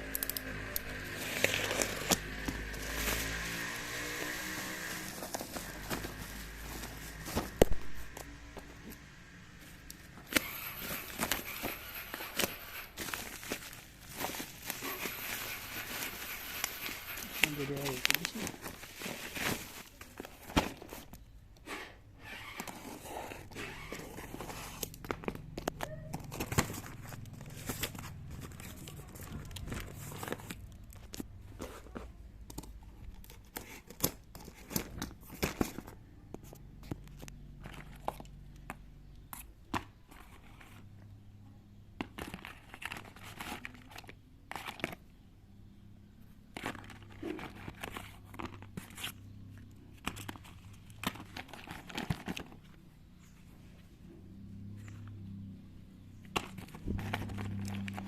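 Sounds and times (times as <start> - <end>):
crinkling and rustling handling: 0.0 - 58.0.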